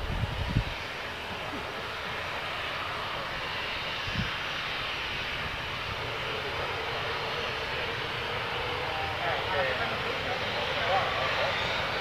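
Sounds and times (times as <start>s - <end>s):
distant jet engines running: 0.0s - 12.0s
faint steady whine: 0.0s - 12.0s.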